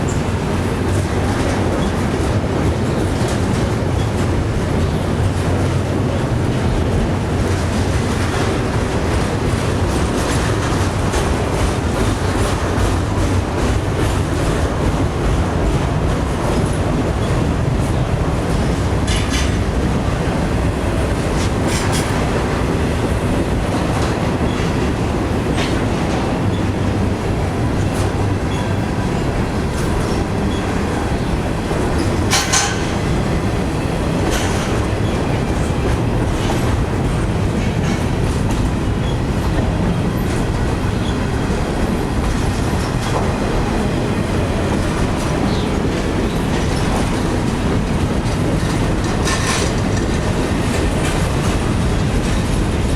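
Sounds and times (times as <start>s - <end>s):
freight train rumbling past: 0.0s - 52.9s
wheels clacking over rail joints: 0.0s - 52.9s.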